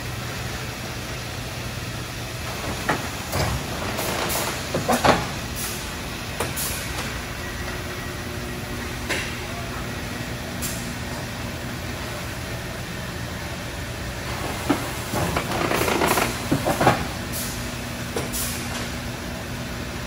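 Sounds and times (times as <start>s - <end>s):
industrial machinery hum: 0.0s - 20.0s.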